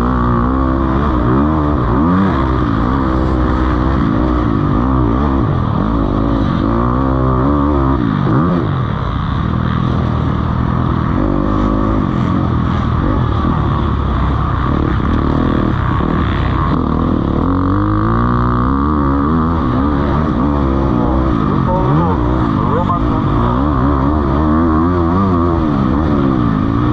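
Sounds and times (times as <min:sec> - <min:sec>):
motocross bikes revving: 0:00.0 - 0:26.9.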